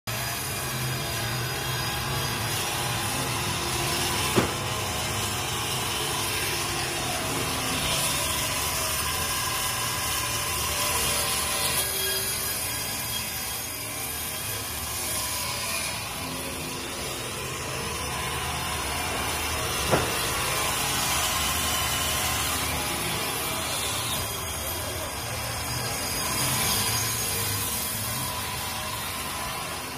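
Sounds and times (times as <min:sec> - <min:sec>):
band sawmill cutting log: 0:00.1 - 0:29.9.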